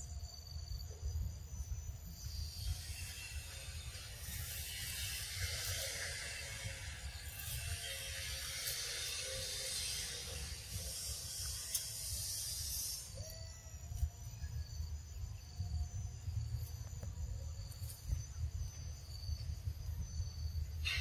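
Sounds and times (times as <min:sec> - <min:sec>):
dense high insect buzzing: 0:01.6 - 0:21.0
high insect trilling: 0:01.6 - 0:21.0.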